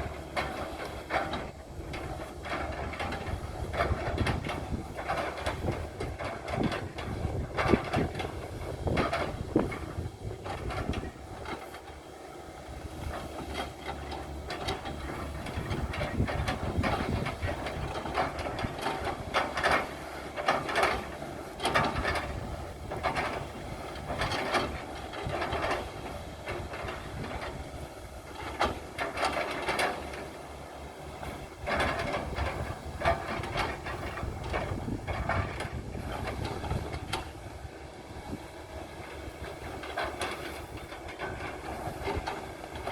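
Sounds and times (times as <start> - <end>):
excavator engine running: 0.0 - 42.9.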